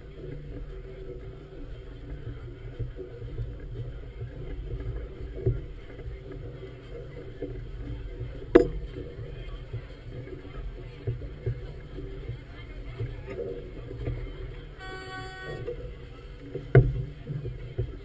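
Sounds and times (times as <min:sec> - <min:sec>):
choppy water sloshing: 0:00.0 - 0:18.0.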